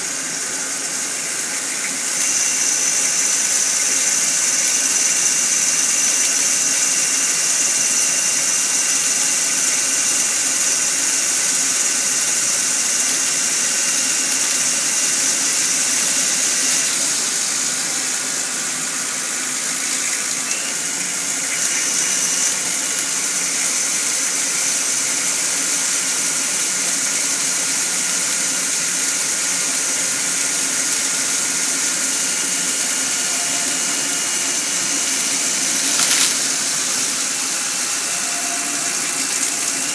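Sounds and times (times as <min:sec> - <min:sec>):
coolant spray hiss: 0:00.0 - 0:39.9
high-pitched machine whine: 0:00.0 - 0:39.9.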